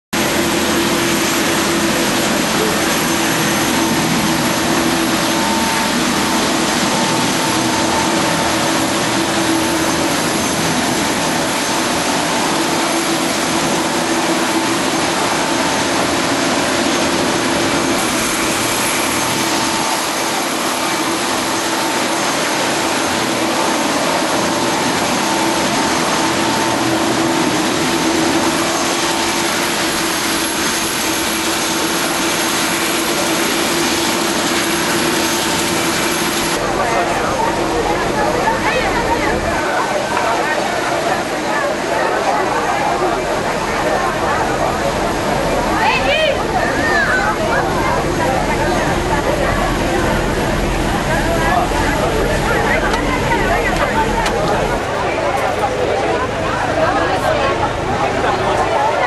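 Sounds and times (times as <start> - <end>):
helicopter turbine and rotor noise: 0.2 - 59.0
steady whine: 0.2 - 59.0.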